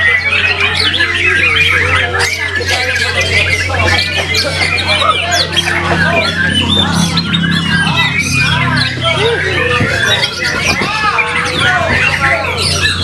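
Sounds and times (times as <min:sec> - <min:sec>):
bird singing whistled song: 0:00.0 - 0:13.0
harsh bird squawking: 0:00.0 - 0:13.0.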